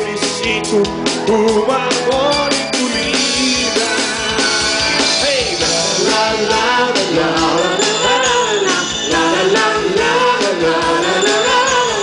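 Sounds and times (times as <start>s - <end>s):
live rock band playing: 0.0s - 12.0s
jingling percussion: 2.1s - 12.0s.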